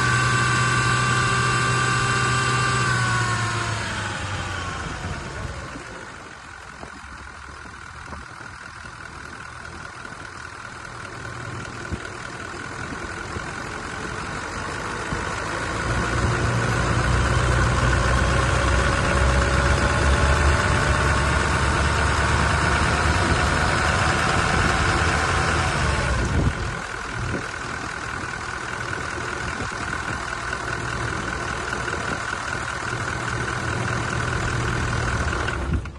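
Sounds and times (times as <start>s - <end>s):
diesel engine revving: 0.0s - 35.9s.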